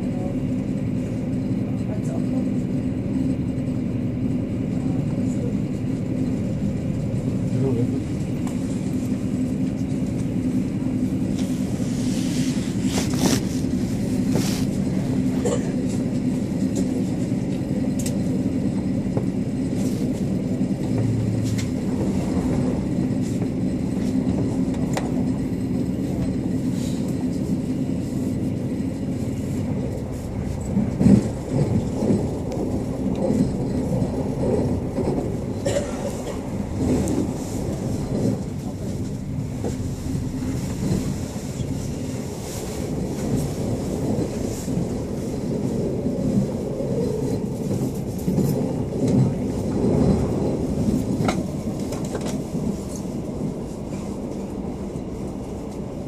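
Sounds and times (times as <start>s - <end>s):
train carriage rumbling on rails: 0.0s - 56.0s.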